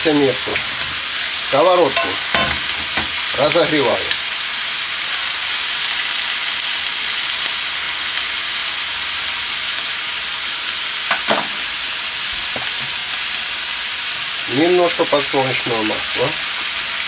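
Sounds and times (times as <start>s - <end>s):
steaks sizzling on a griddle: 0.0s - 17.0s.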